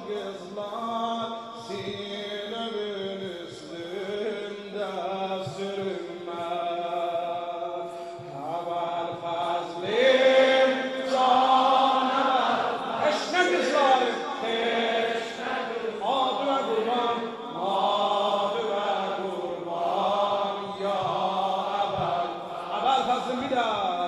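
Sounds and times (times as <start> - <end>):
man chanting into microphone: 0.0 - 24.0.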